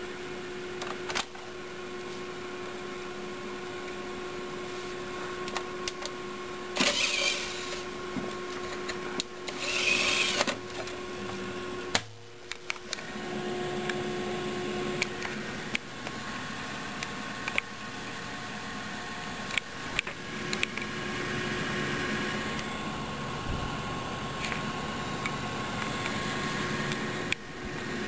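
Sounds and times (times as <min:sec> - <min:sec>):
computer cooling fans whirring: 0:00.0 - 0:28.0.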